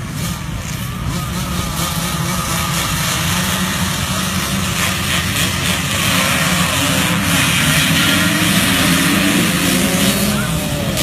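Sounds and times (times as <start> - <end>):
motocross bike engines running: 0.0 - 11.0.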